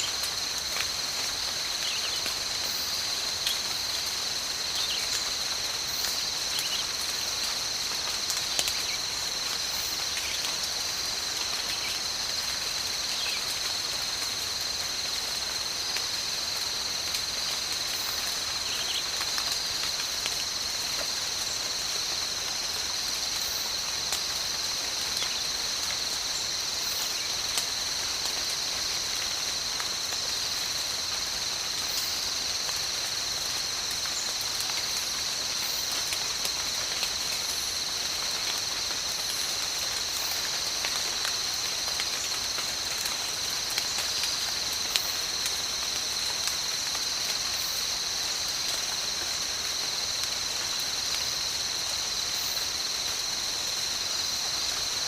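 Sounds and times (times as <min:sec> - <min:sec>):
high-pitched insect chorus: 0:00.0 - 0:55.0
rain falling on foliage: 0:00.0 - 0:55.0.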